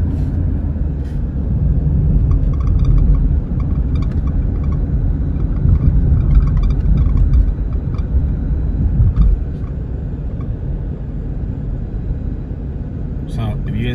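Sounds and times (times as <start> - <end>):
road and drivetrain rumble: 0.0 - 13.9.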